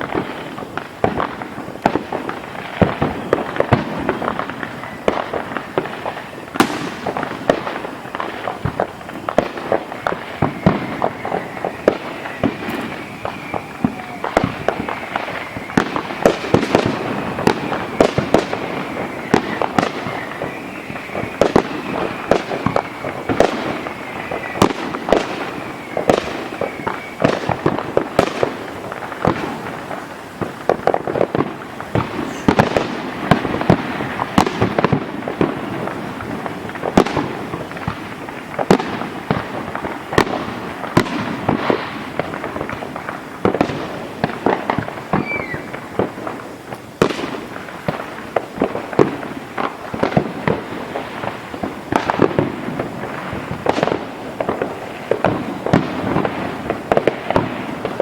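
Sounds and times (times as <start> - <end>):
fireworks bangs and pops: 0.0 - 58.0.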